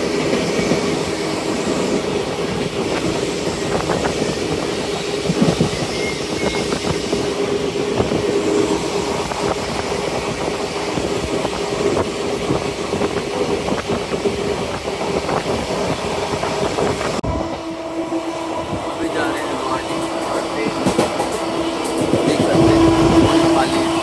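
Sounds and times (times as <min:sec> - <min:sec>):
train wheels clickety-clack: 0:00.0 - 0:17.2, 0:18.5 - 0:24.0
train rattle: 0:00.0 - 0:24.0.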